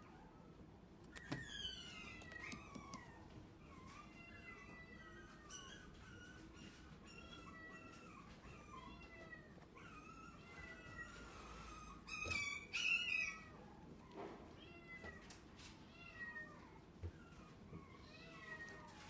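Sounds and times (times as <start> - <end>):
puppy whimpering: 0.0 - 14.2, 16.1 - 19.0
puppy whining: 0.0 - 19.0.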